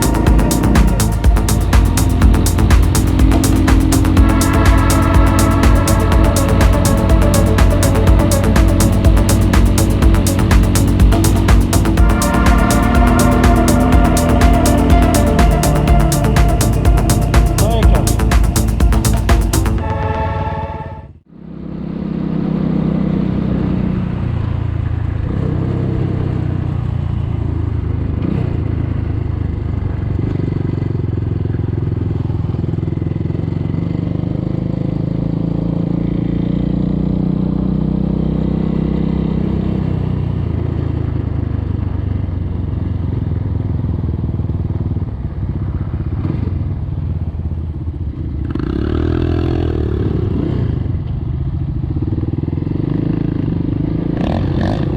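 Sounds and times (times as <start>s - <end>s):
motorcycle engine running: 0.0s - 20.2s, 21.6s - 54.9s.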